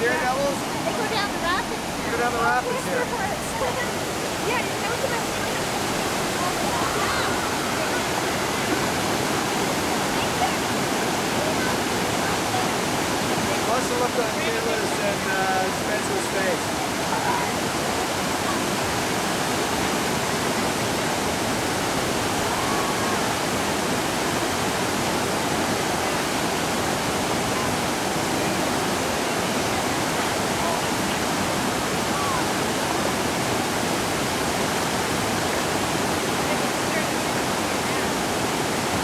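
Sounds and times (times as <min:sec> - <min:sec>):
waterfall and rapids rushing: 0:00.0 - 0:39.0.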